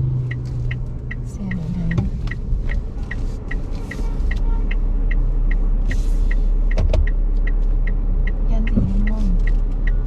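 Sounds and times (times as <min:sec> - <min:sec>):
road noise rumble: 0:00.0 - 0:10.0
turn signal ticking: 0:00.0 - 0:10.0.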